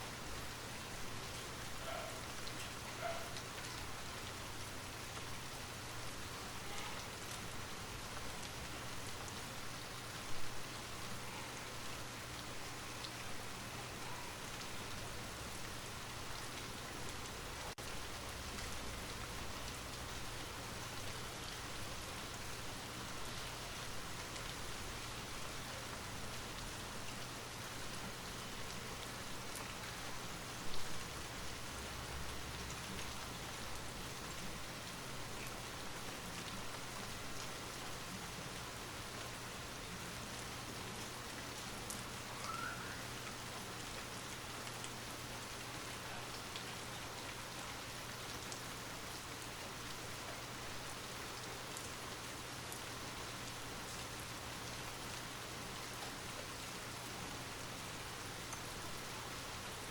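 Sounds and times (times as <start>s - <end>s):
light rain hiss: 0.0s - 59.9s.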